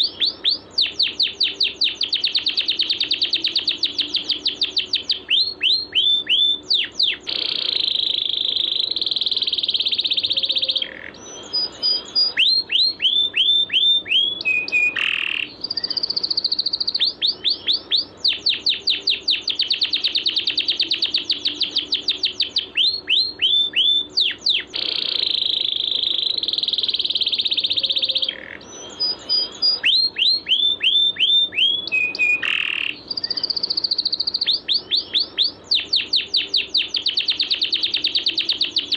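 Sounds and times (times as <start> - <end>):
buzzy bird trills: 0.0 - 38.9
falling whistled bird notes: 0.0 - 38.9.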